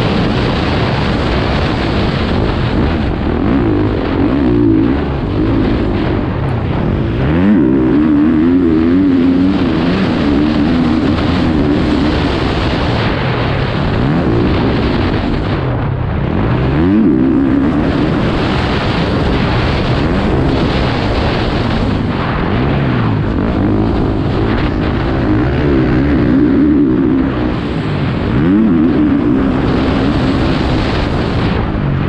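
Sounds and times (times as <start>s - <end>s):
motocross bike engine revving: 0.0s - 32.0s
wind noise on microphone: 0.0s - 32.0s.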